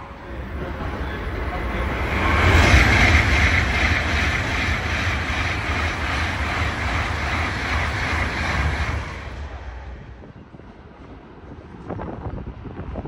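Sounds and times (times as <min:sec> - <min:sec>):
bullet train passing at speed: 0:00.0 - 0:13.0.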